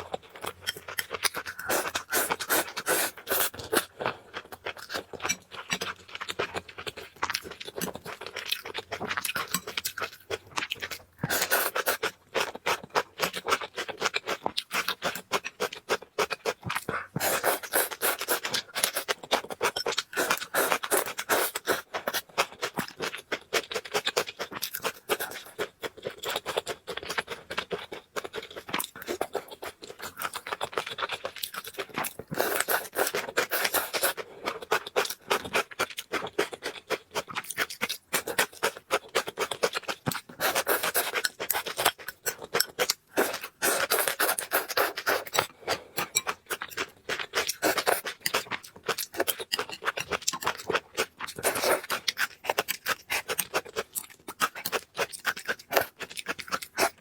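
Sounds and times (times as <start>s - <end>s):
food being chewed crackling: 0.0s - 57.0s.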